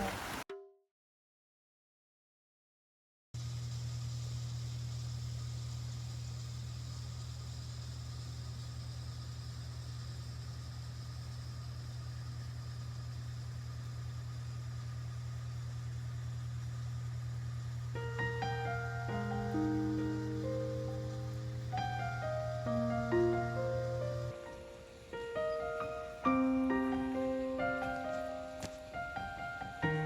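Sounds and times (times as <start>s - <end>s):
low mechanical hum: 3.4s - 30.0s.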